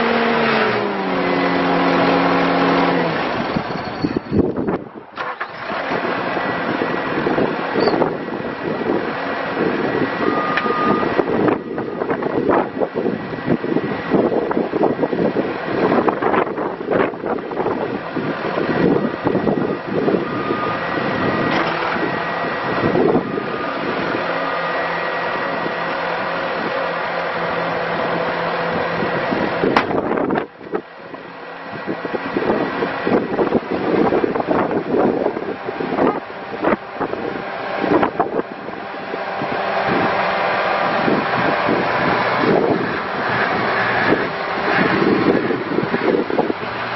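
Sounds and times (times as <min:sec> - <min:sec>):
diesel engine running: 0:00.0 - 0:46.9
wind buffeting microphone: 0:01.8 - 0:46.9.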